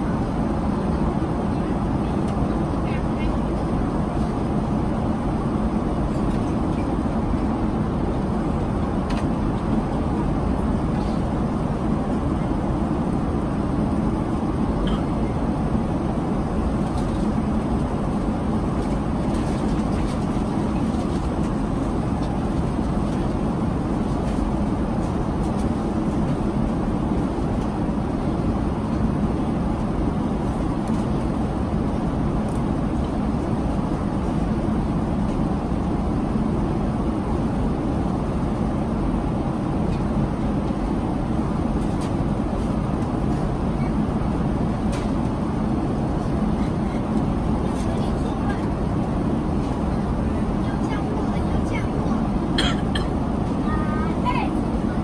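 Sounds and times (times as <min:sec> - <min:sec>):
airplane cabin rushing noise: 0:00.0 - 0:55.0.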